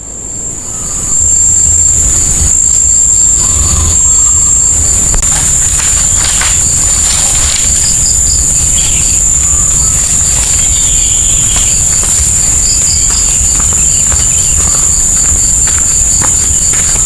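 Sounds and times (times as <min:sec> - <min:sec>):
insects droning: 0:00.0 - 0:17.0
low rumble: 0:00.0 - 0:17.0
quick regular chirping: 0:00.0 - 0:17.0.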